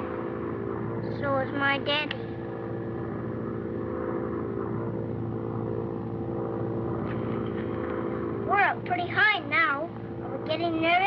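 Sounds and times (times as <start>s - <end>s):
propeller airplane engines droning: 0.0s - 11.0s.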